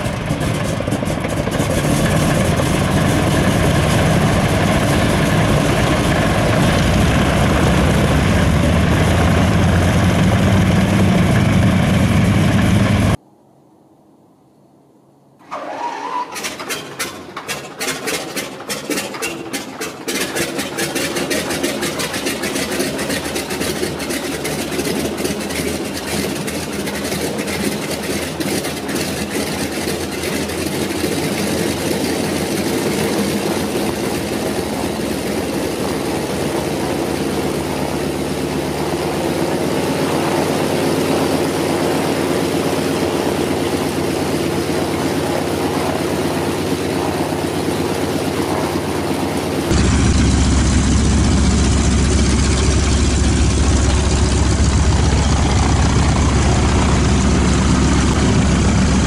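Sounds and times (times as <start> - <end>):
aircraft engine idling: 0.0 - 13.2, 16.5 - 59.0
engine uneven firing strokes: 0.0 - 13.2, 15.5 - 59.0
radial aircraft engine starting: 0.0 - 13.2, 15.4 - 59.0.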